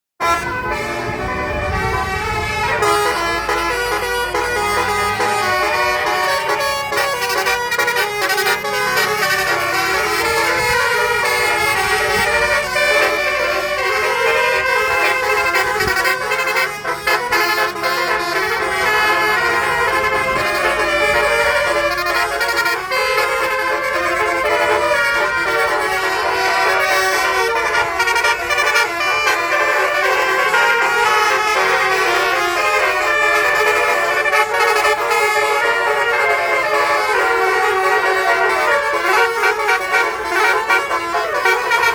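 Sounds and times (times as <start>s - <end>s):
musical bus horns playing melodies: 0.2s - 41.9s.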